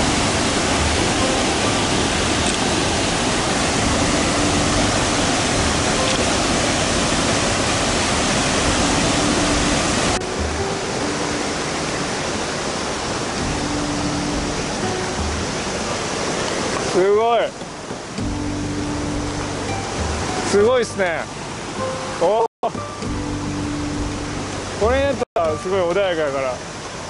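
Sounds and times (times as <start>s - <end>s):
river rushing: 0.0s - 27.0s
waterfall roaring: 0.0s - 27.0s.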